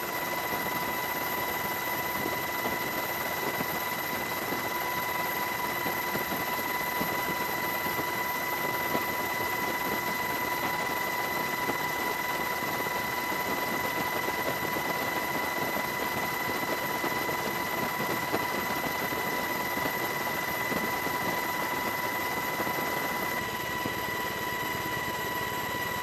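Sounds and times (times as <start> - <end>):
helicopter drone with whining: 0.0 - 26.0.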